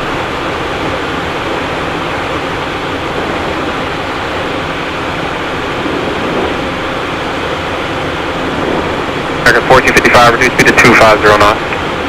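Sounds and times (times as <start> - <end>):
jet cockpit airflow and engine noise: 0.0 - 12.0.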